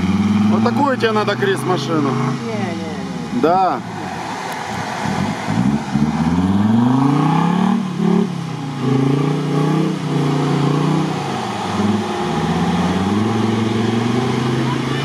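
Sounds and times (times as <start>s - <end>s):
vehicle engine revving hard: 0.0s - 15.0s.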